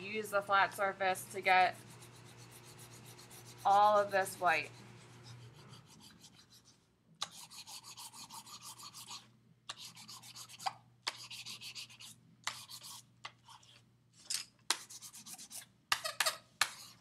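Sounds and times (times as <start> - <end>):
charcoal scratching on paper: 1.5 - 13.8, 14.7 - 17.0.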